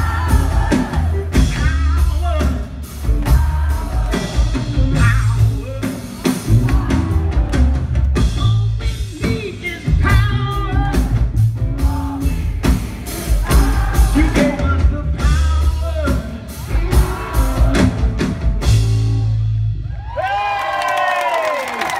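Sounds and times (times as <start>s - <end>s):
man singing lead: 0.0s - 18.2s
live rock band playing: 0.0s - 19.9s.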